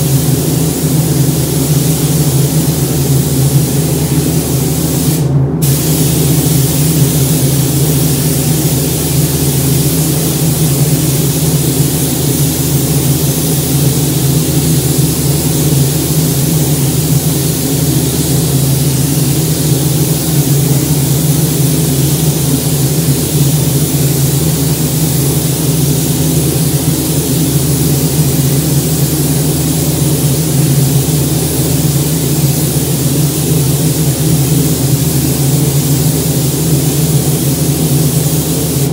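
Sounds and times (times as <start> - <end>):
ventilation air rushing: 0.0 - 38.9.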